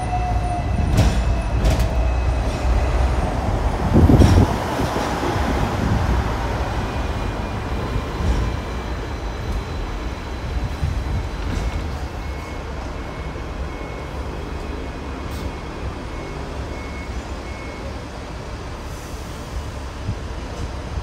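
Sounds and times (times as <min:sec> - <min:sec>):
tram wheels rumbling on rail: 0:00.0 - 0:21.0.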